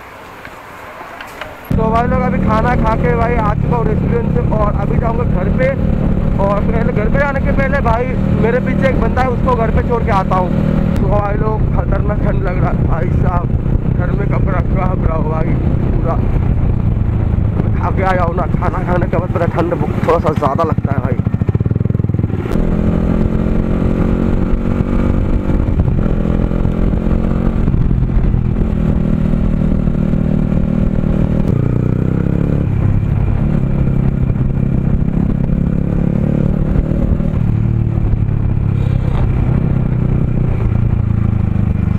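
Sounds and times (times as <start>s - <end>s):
motorcycle engine running: 1.7s - 41.9s.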